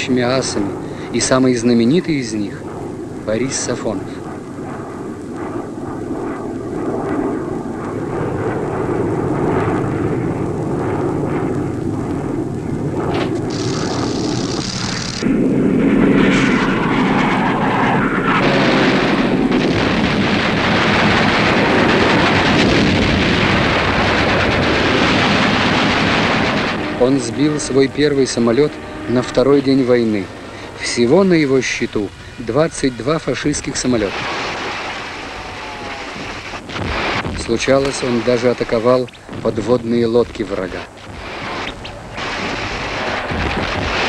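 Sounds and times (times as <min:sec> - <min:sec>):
propeller aircraft engine: 0:00.0 - 0:39.4, 0:40.8 - 0:44.0.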